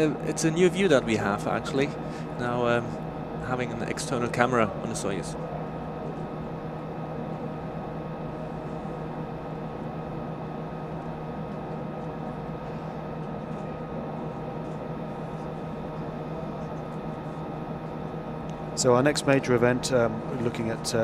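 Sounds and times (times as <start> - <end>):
steady tones: 0.0 - 21.0.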